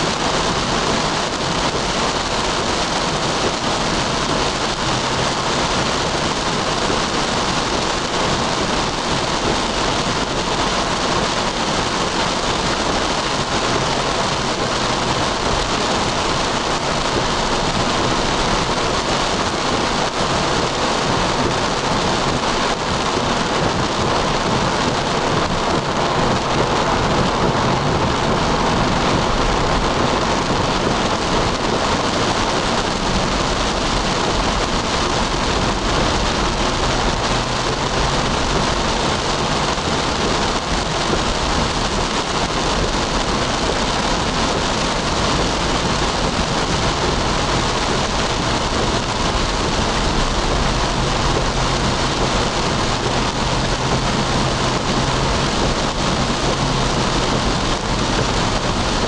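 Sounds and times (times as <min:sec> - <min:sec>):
car road noise: 0:00.0 - 0:59.0
heavy rain on car windshield: 0:00.0 - 0:59.0.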